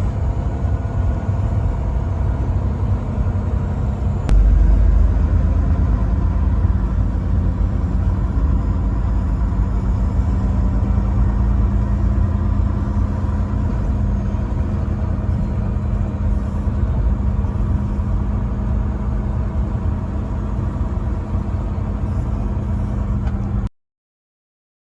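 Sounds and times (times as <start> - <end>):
truck engine rumbling: 0.0 - 23.7.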